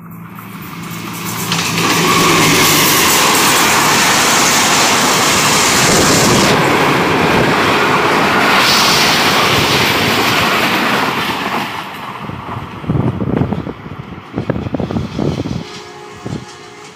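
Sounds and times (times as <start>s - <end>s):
train wheels rattling on rails: 0.0s - 16.9s.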